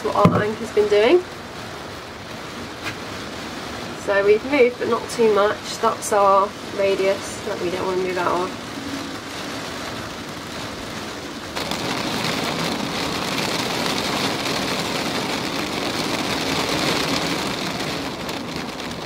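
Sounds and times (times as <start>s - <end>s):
heavy rain on a boat: 0.0s - 19.0s.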